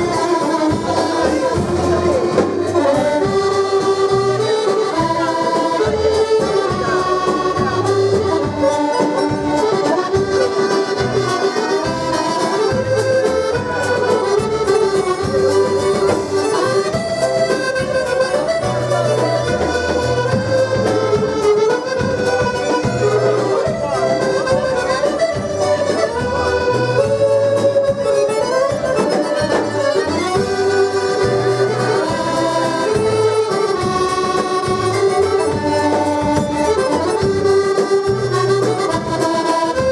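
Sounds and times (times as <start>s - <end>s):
button accordions playing dance tune: 0.0s - 39.9s.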